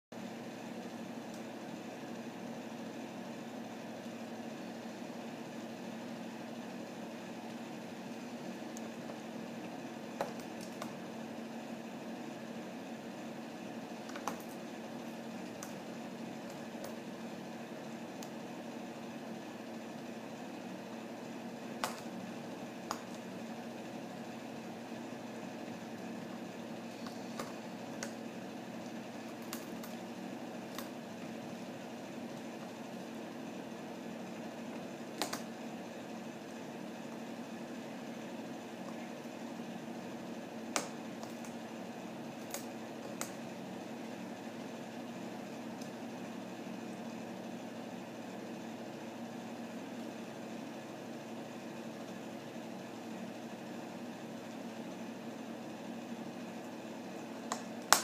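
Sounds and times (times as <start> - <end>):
steady mechanical hum: 0.1 - 58.0.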